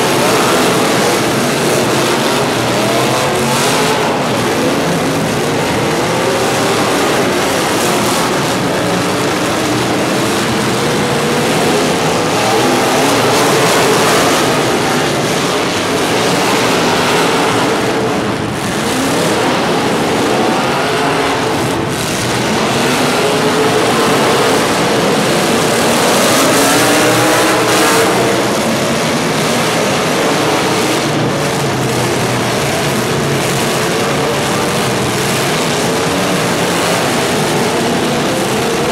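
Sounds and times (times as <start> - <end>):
vehicle engines revving: 0.0 - 38.9.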